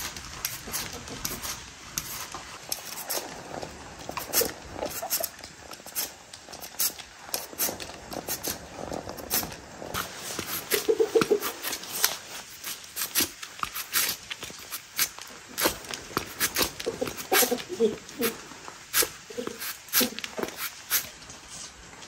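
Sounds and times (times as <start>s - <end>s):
peeler scraping vegetable skin: 0.0s - 21.8s.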